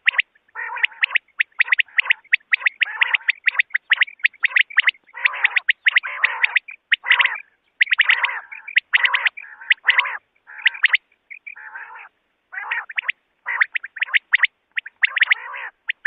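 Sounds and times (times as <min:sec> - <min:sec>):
quail chirps: 0:00.0 - 0:16.0
raspy quail calls: 0:00.0 - 0:16.0.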